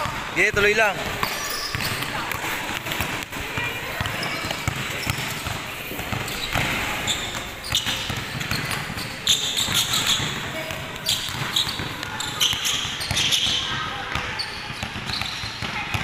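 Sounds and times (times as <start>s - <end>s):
basketballs bouncing on hard court: 0.0s - 16.0s.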